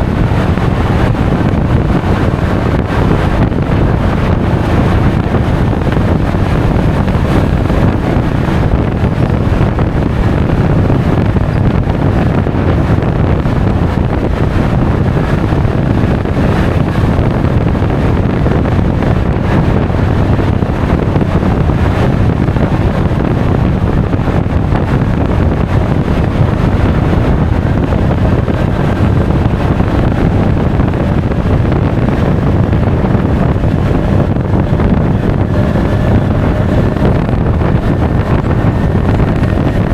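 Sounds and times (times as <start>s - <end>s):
scooter running noise: 0.0s - 39.9s
wind rush on microphone: 0.0s - 39.9s.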